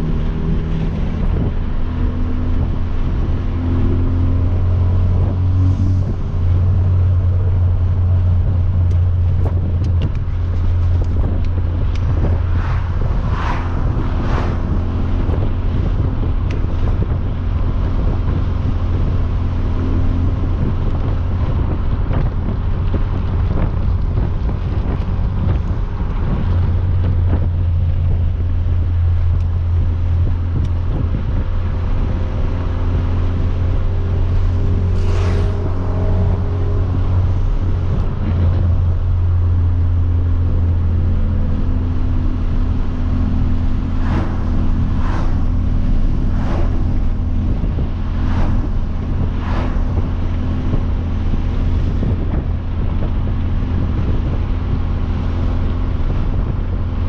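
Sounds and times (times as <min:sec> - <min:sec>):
car engine and exhaust drone: 0:00.0 - 0:57.0
road noise: 0:00.0 - 0:57.0
wind noise: 0:00.0 - 0:57.0.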